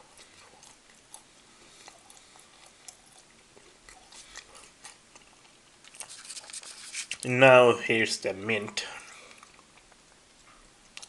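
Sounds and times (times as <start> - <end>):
faint chewing: 0.0 - 7.3, 8.7 - 11.0.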